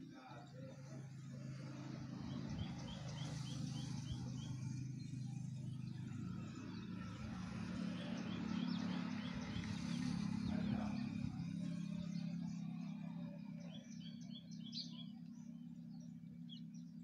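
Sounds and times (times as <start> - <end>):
small bird chirping: 2.0 - 17.0.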